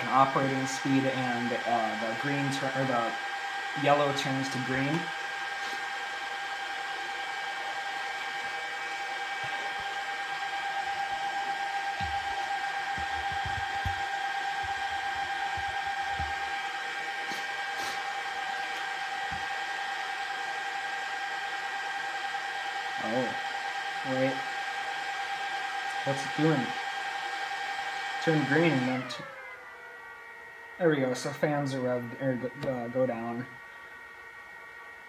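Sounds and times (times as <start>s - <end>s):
cooling fans running: 0.0s - 35.0s.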